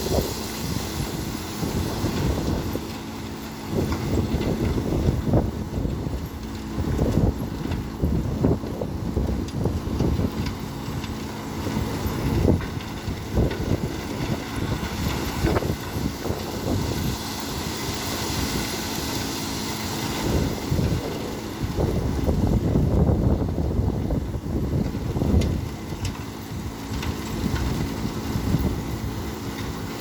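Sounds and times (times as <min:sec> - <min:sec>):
wind buffeting microphone: 0:00.0 - 0:29.9
heavy truck engine running: 0:00.0 - 0:30.0.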